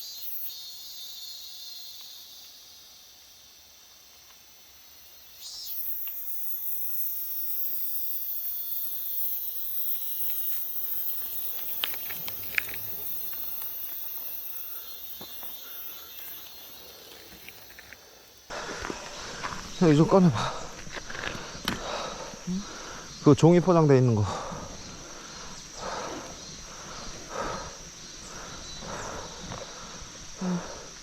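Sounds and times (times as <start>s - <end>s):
insects buzzing: 0.0s - 31.0s.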